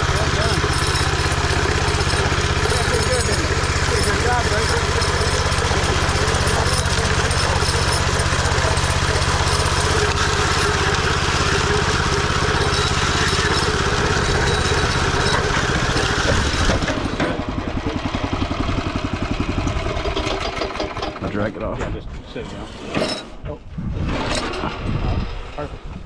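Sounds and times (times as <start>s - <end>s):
engine running: 0.0s - 25.6s.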